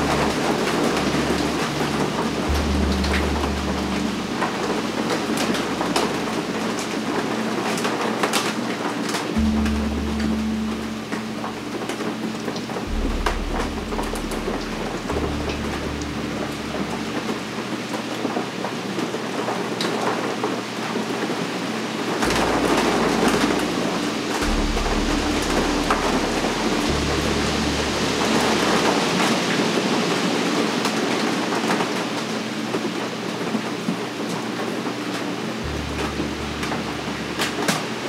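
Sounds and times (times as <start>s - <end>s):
rain pattering on glass: 0.0s - 38.0s.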